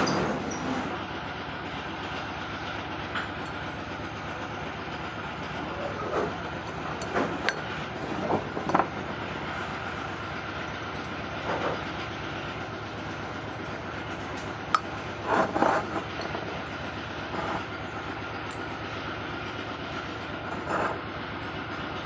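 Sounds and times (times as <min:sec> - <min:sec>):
steady mechanical running noise: 0:00.0 - 0:22.0.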